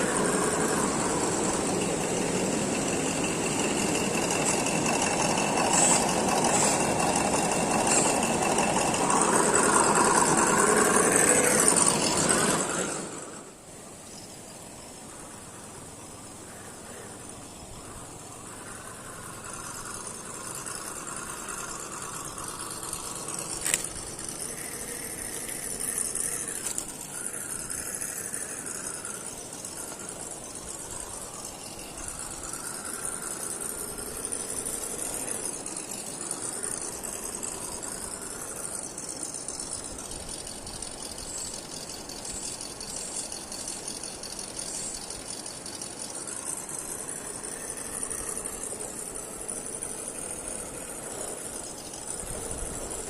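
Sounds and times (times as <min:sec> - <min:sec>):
toy car body rattling: 0:00.0 - 0:13.4, 0:18.6 - 0:53.0
electric motor and gears whining: 0:00.0 - 0:53.0.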